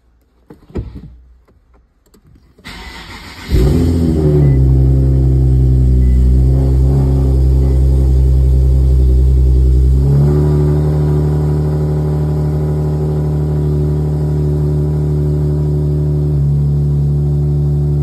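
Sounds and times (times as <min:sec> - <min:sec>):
car engine running while driving: 0:03.4 - 0:18.0.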